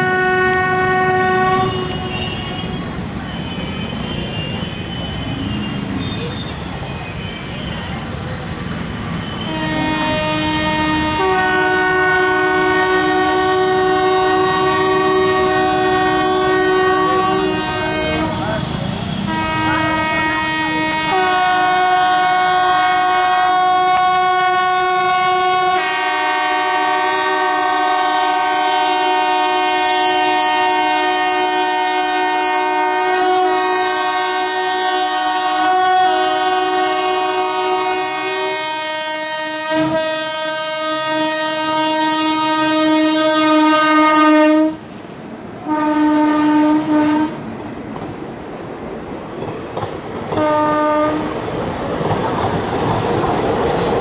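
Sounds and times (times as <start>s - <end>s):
train horn blowing: 0.0s - 6.3s, 9.2s - 44.9s, 45.6s - 47.4s, 50.3s - 51.4s.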